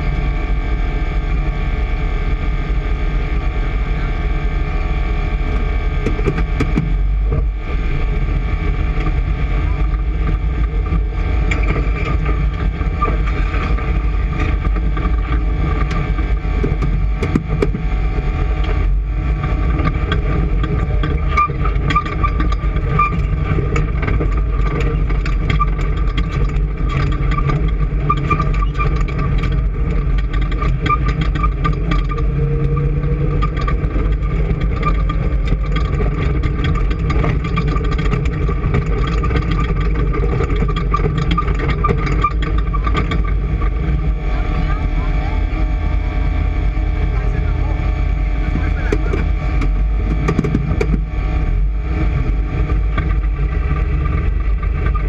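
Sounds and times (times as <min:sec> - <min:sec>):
engine running with whine: 0:00.0 - 0:55.0.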